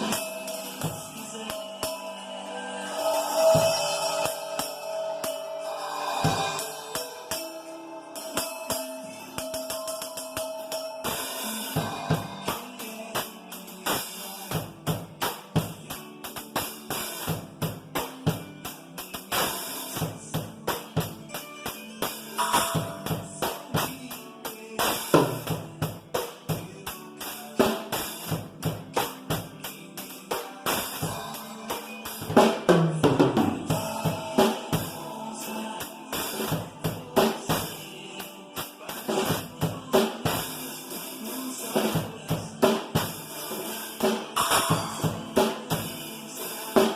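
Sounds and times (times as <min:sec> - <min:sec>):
drum kit rock beat: 0:00.0 - 0:46.9
recorded backing song: 0:00.0 - 0:46.9.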